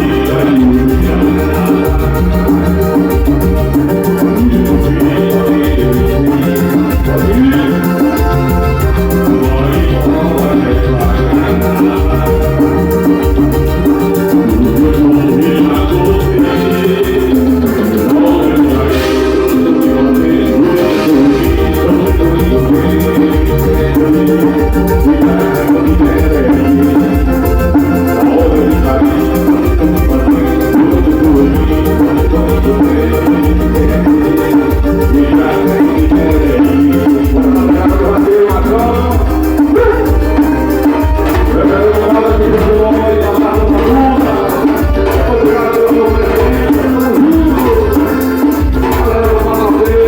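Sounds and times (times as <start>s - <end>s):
drums keeping a steady beat: 0.0s - 50.0s
loud band music with heavy bass: 0.0s - 50.0s
sustained melody notes: 0.0s - 50.0s.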